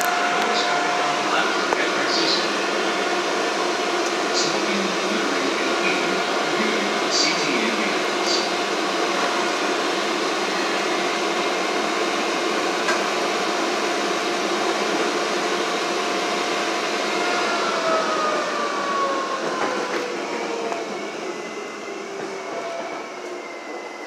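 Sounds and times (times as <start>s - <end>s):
rail car running noise: 0.0s - 24.0s.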